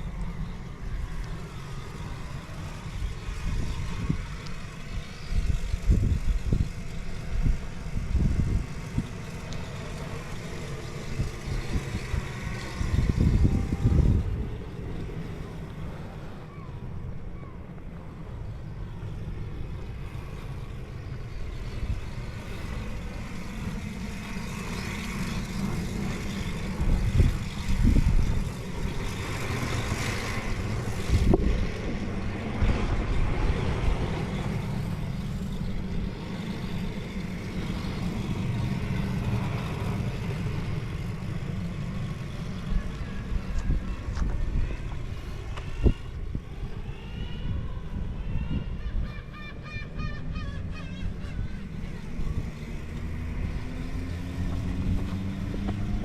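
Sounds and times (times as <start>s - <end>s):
vehicle rumbling: 0.0s - 56.0s.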